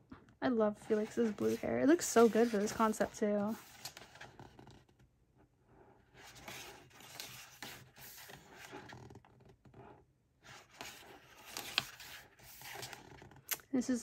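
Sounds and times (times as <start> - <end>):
glossy pages rustling: 0.8 - 5.0, 6.0 - 13.6.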